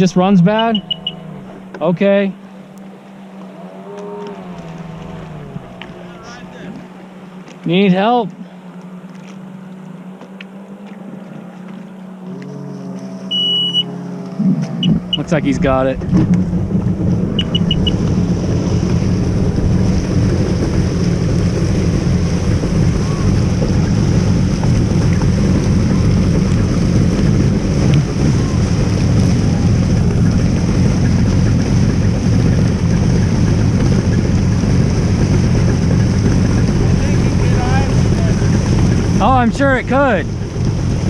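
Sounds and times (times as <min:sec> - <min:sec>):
jet ski engine running: 0:00.0 - 0:41.0
water rushing: 0:00.0 - 0:41.0.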